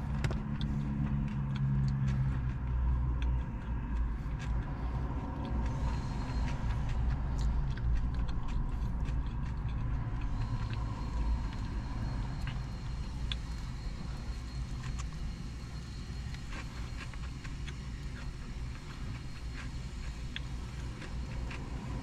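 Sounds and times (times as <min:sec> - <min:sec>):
low droning hum: 0:00.0 - 0:22.0
low traffic rumble: 0:00.0 - 0:22.0.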